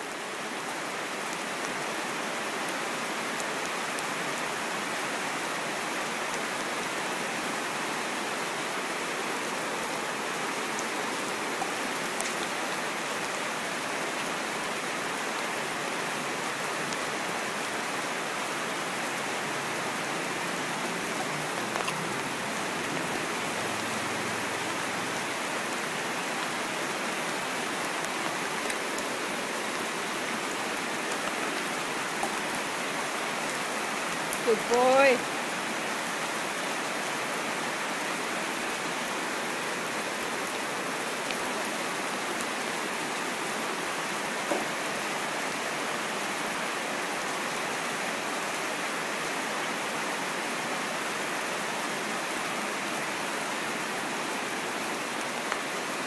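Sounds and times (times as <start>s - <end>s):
heavy rain on wet paving: 0.0s - 56.0s.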